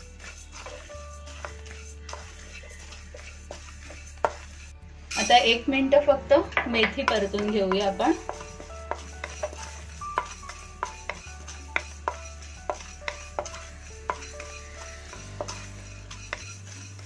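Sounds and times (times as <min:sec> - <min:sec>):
spatula scraping seeds in a pan: 0:00.0 - 0:17.0.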